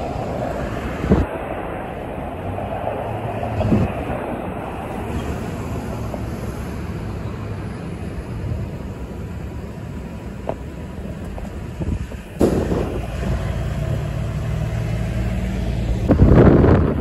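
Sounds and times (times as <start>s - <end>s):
passing vehicles: 0.0s - 17.0s
rush of noise: 0.0s - 17.0s
truck engine low hum: 0.0s - 17.0s.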